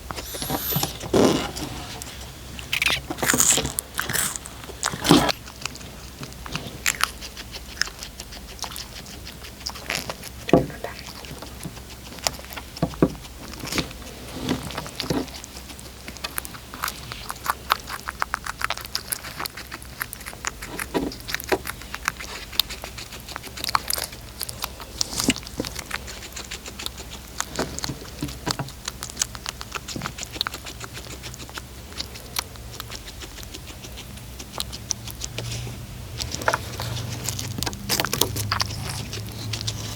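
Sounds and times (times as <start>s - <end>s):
cat chewing and crunching food: 0.0s - 39.9s.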